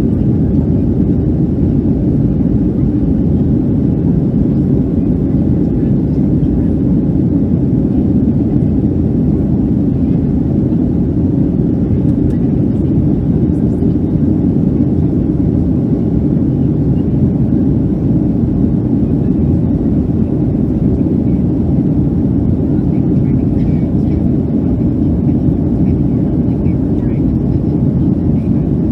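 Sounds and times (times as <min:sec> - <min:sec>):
airplane cabin engine noise: 0:00.0 - 0:28.9.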